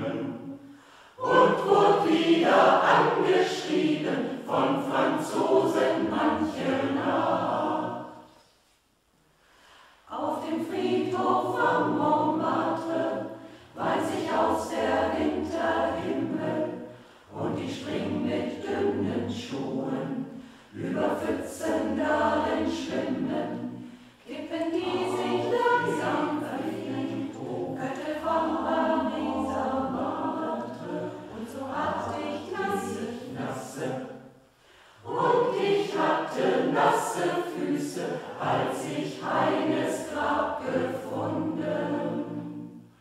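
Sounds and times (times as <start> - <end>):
choir singing a cappella: 0.0 - 8.7, 9.6 - 43.0.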